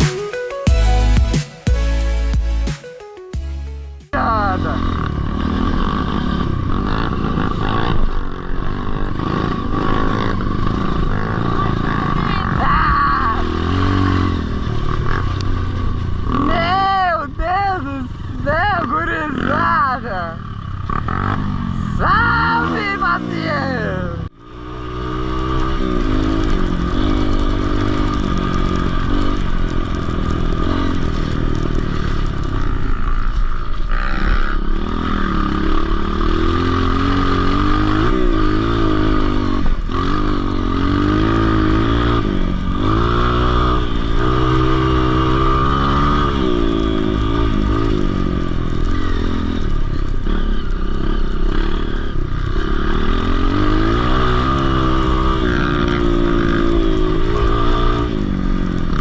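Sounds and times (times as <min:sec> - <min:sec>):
dirt bike engine revving: 0:03.4 - 0:17.6, 0:18.2 - 0:59.0.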